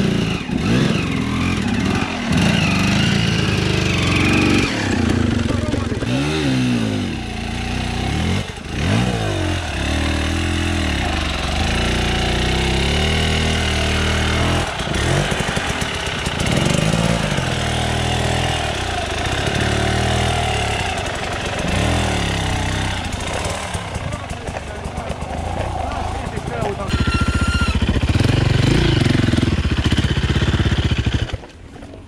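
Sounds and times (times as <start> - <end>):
dirt bike engine revving: 0.0 - 31.5.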